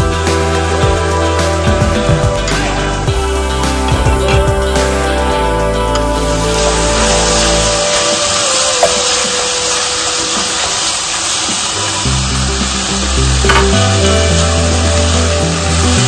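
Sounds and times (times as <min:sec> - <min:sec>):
vegetables sizzling in oil: 0:00.0 - 0:03.9, 0:04.8 - 0:16.0
background music with bass line: 0:00.0 - 0:09.4, 0:12.0 - 0:16.0.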